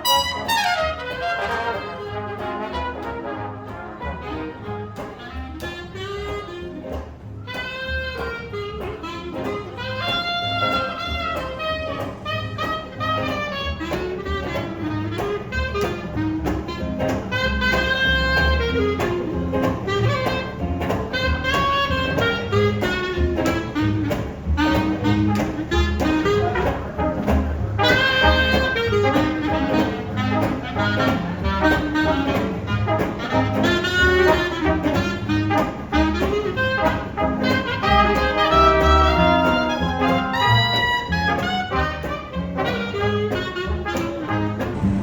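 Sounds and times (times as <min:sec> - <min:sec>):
bass: 0:00.0 - 0:45.0
horns playing melody: 0:00.0 - 0:45.0
steady drum beat: 0:00.0 - 0:45.0.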